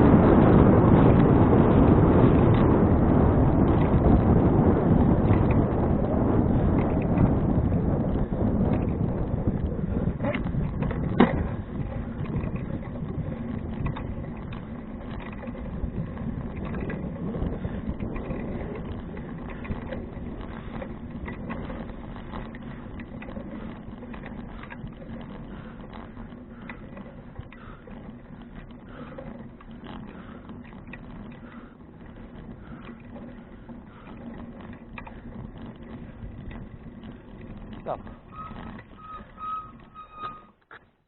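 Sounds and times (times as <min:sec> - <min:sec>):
wind on microphone: 0:00.0 - 0:40.5
bicycle rattles: 0:00.0 - 0:41.0
tyre and road rumble: 0:00.0 - 0:41.0.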